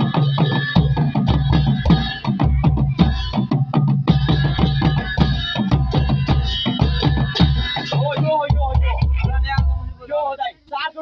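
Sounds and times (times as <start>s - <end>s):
hand cymbals clashing: 0.0s - 10.1s
drums beaten with sticks: 0.0s - 10.8s.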